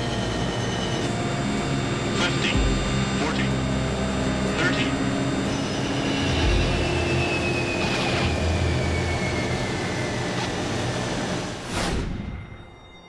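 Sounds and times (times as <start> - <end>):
turboprop engines droning with whine: 0.0 - 13.0.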